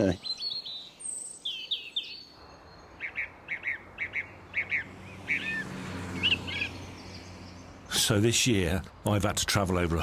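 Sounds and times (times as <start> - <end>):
nightingale singing: 0.0 - 8.5.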